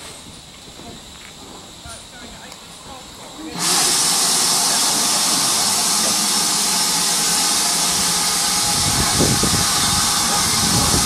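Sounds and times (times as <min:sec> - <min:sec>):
locomotive rumble: 0:00.0 - 0:11.0
steam hissing: 0:00.0 - 0:11.0.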